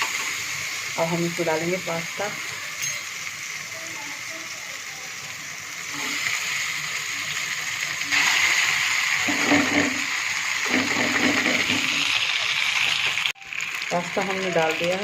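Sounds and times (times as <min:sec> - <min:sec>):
oil and sauce sizzling: 0:00.0 - 0:15.0.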